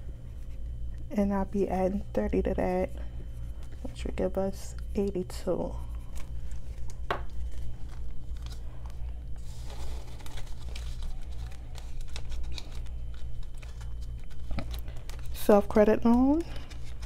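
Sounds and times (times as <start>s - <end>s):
steady low hum: 0.0s - 17.0s
banknotes and plastic rustling: 3.3s - 17.0s.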